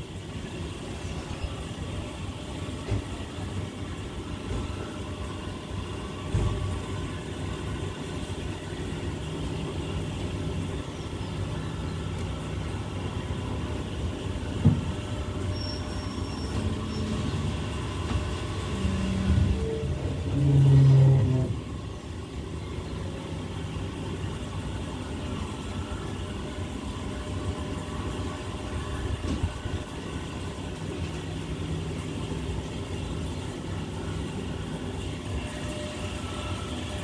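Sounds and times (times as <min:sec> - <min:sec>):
diesel train rumble: 0:00.0 - 0:37.0
low humming tone: 0:00.0 - 0:37.0.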